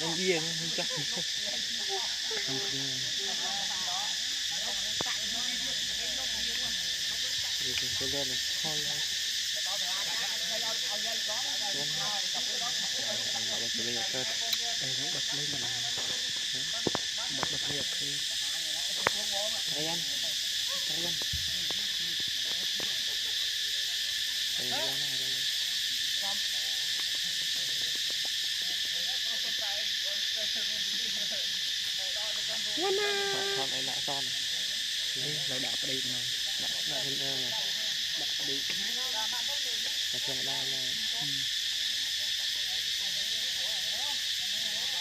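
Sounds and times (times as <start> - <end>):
crickets chorus: 0.0 - 45.0.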